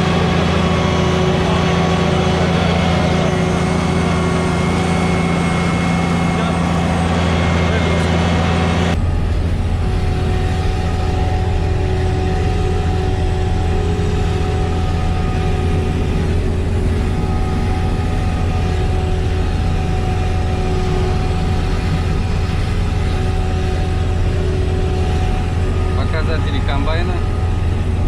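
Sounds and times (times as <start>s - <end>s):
faint steady whine: 0.0s - 28.0s
harvester engine drone: 0.0s - 28.0s.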